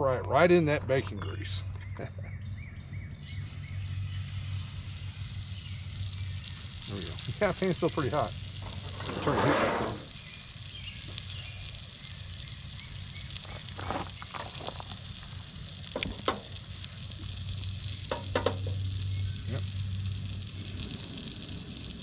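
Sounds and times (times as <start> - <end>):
chicken sizzling in skillet: 3.2 - 22.0
sharp grease crackles: 3.2 - 22.0.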